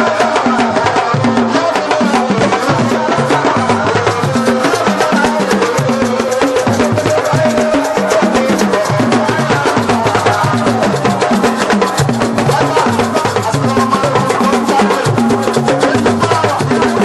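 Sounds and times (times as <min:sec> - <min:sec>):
drums playing fast rhythm: 0:00.0 - 0:17.0.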